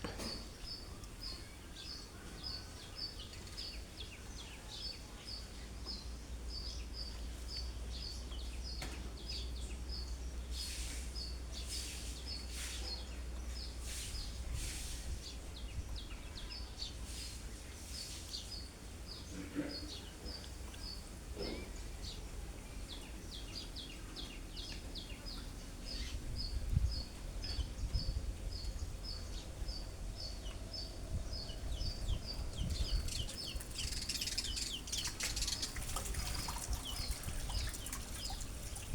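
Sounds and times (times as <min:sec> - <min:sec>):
low rumble of wind: 0:00.0 - 0:38.9
small birds chirping: 0:00.0 - 0:38.9.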